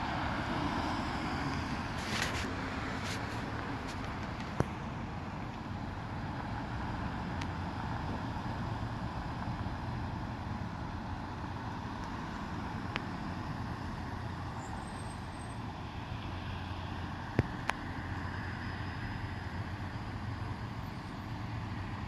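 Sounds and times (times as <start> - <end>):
road traffic humming: 0.0 - 22.0.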